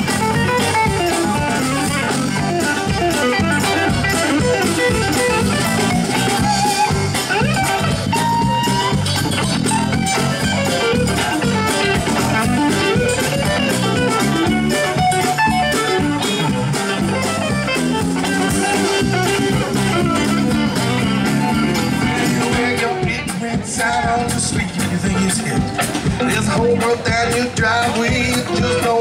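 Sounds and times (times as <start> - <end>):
electric guitar solo: 0.0 - 23.4
live band playing: 0.0 - 29.0.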